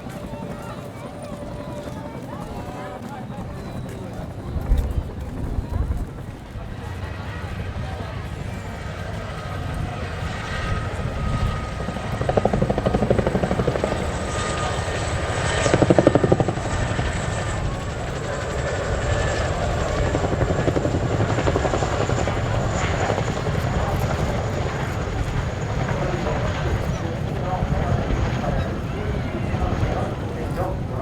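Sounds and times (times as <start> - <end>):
helicopter low rumble: 0.0 - 31.0
helicopter rotor blades beating: 0.0 - 31.0.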